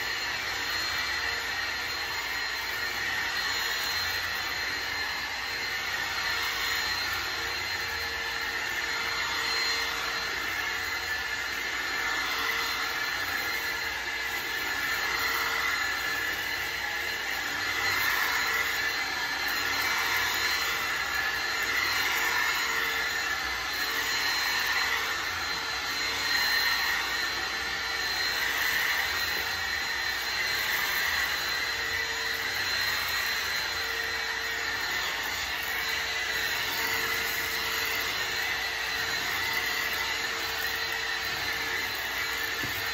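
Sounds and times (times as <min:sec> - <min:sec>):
vacuum cleaner running on rug: 0:00.0 - 0:42.9.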